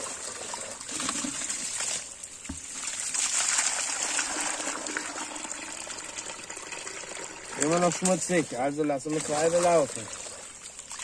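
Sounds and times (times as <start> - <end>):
water pouring onto paving: 0.0 - 11.0
water running into bucket: 0.0 - 11.0.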